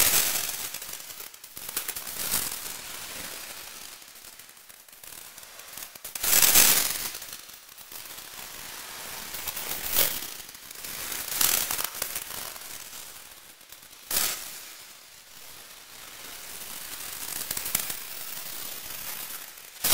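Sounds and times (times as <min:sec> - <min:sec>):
dense crackling noise: 0:00.0 - 0:19.9.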